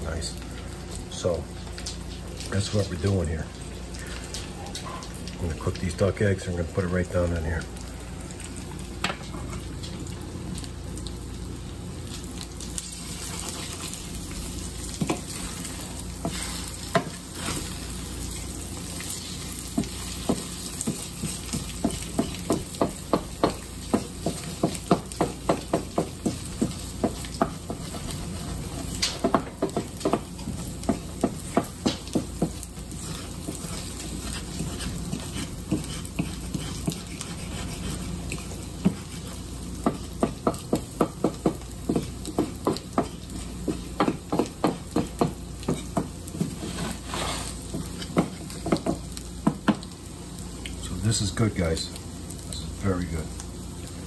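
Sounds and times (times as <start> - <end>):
eggs sizzling in a pan: 0.0 - 54.0.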